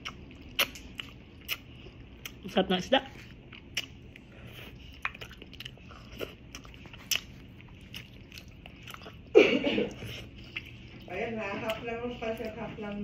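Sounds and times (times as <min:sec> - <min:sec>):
chewing and crunching fish: 0:00.0 - 0:02.5, 0:03.2 - 0:13.0.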